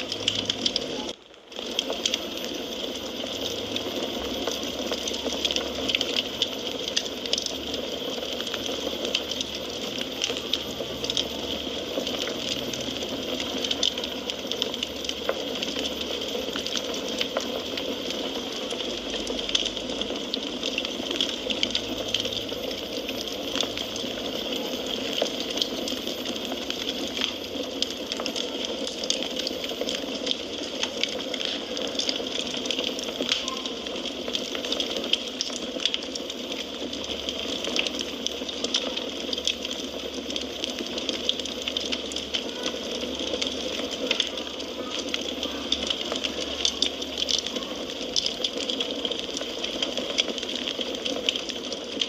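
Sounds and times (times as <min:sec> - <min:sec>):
hiss of burning: 0:00.0 - 0:52.0
wood fire crackling: 0:00.0 - 0:52.0.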